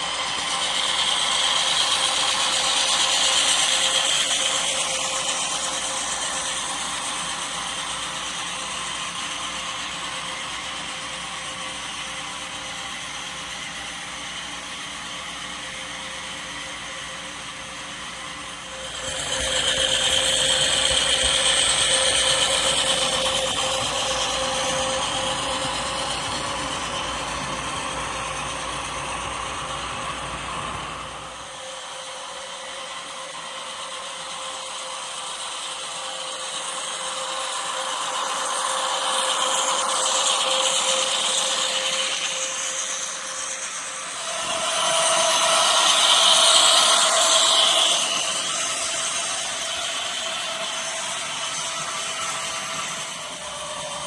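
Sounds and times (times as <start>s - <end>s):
model train wheels clicking on rails: 0.0s - 54.0s.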